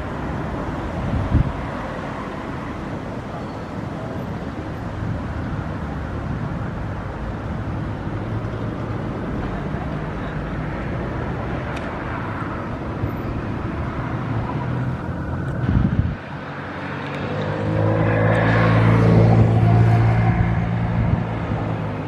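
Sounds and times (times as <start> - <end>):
motor traffic rumble: 0.0 - 22.0
vehicle engine humming: 0.0 - 22.0.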